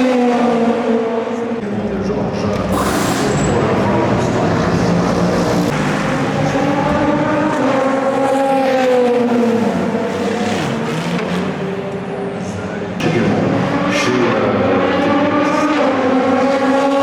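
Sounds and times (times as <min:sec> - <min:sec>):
race car engine at speed: 0:00.0 - 0:17.0.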